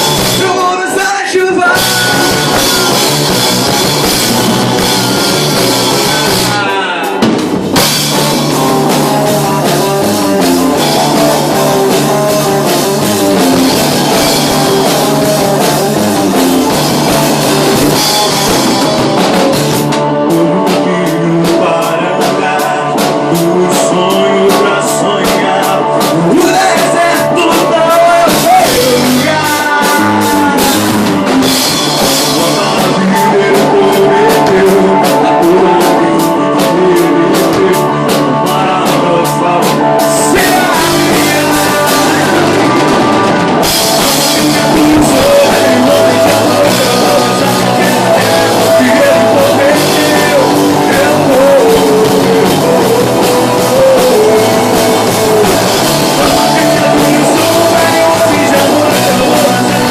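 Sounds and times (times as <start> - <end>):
drum kit: 0.0 - 59.9
guitar: 0.0 - 59.9
person singing: 0.0 - 59.9.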